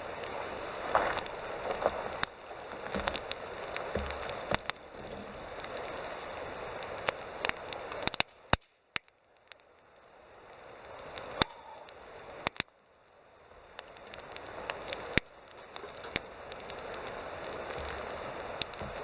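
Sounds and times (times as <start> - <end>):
campfire crackling and popping: 0.0 - 19.0
soft hiss of burning: 0.0 - 19.0.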